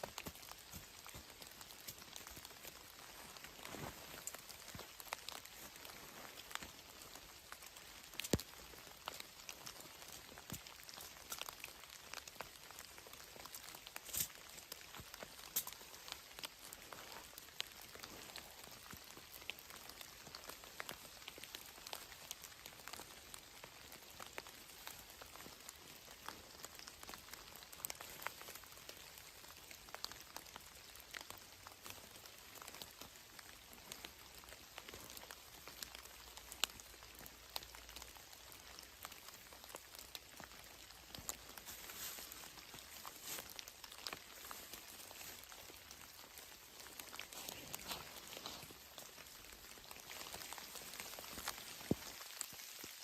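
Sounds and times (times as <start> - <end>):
faint steady rain hiss: 0.0 - 53.0
raindrops ticking: 0.0 - 53.0.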